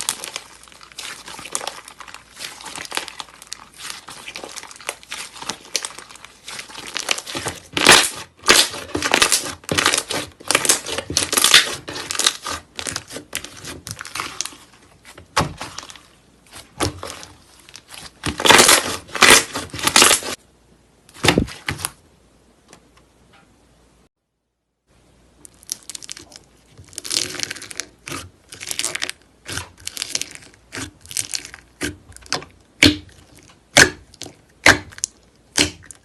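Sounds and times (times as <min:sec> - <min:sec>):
slime crinkling and crackling: 0:00.0 - 0:20.4, 0:25.4 - 0:36.0.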